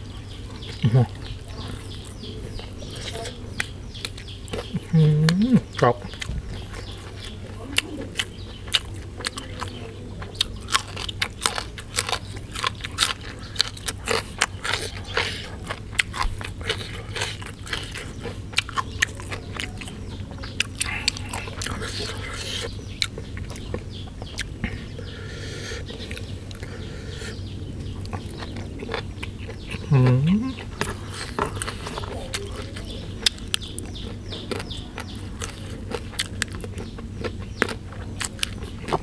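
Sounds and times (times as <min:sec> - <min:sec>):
chewing crisp raw vegetables: 0:00.0 - 0:39.0
steady low hum: 0:00.0 - 0:39.0.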